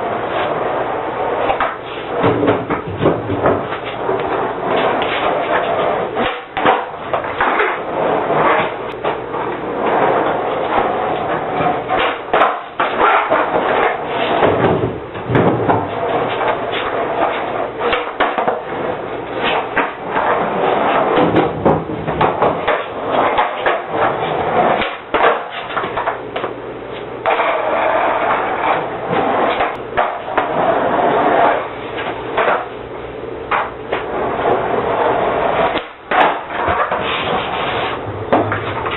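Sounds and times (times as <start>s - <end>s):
skateboard clacks and knocks: 0.0s - 26.6s, 27.2s - 32.7s, 33.5s - 38.9s
skateboard wheels rolling: 0.0s - 38.9s.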